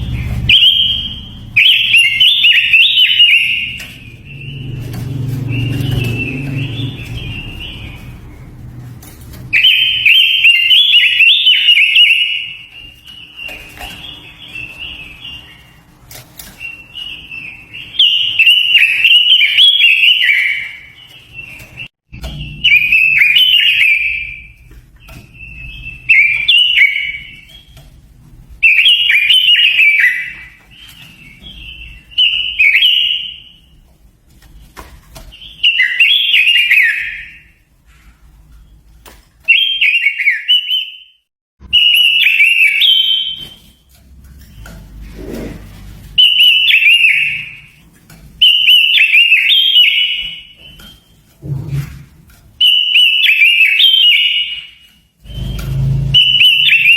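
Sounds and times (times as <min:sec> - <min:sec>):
songbird whistled song: 0:00.0 - 0:33.8, 0:34.4 - 0:38.8, 0:39.4 - 0:56.9.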